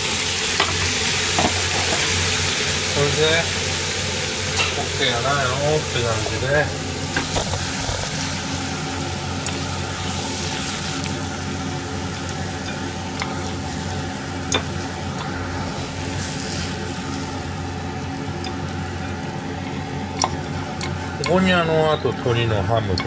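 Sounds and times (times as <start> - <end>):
frying pan sizzling: 0.0 - 23.0
steady low hum: 0.0 - 23.0.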